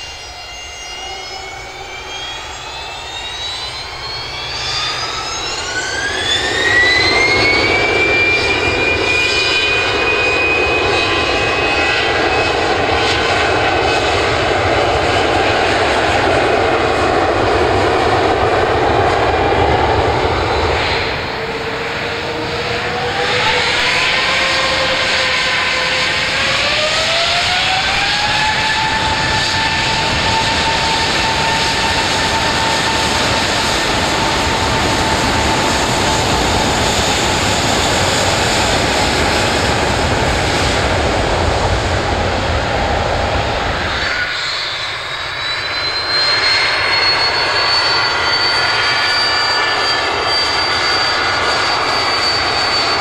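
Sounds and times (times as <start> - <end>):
jet engines spooling up: 0.0 - 53.0
small jet engines whining: 0.0 - 53.0.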